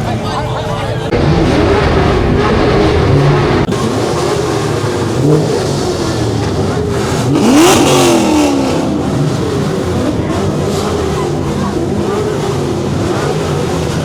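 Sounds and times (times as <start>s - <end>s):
steady engine noise: 0.0s - 14.0s
vehicle engine revving: 1.0s - 14.0s.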